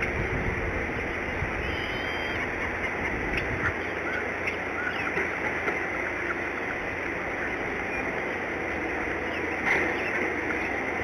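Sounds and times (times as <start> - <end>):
eagles chirping: 0.9 - 11.0.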